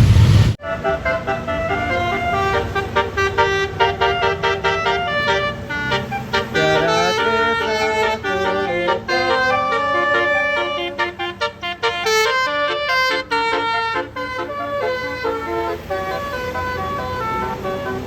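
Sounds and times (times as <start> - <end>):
bus horn playing a tune: 0.6 - 18.0.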